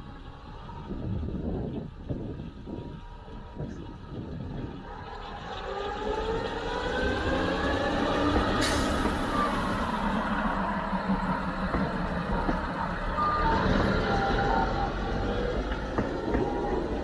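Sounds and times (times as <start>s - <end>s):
railcar engine accelerating: 0.0s - 17.0s.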